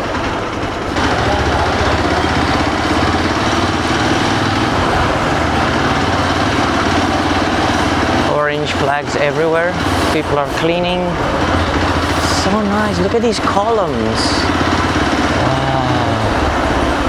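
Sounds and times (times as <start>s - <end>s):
motorcycle engine running: 0.0s - 17.0s
road noise: 0.0s - 17.0s
rushing wind: 0.0s - 17.0s.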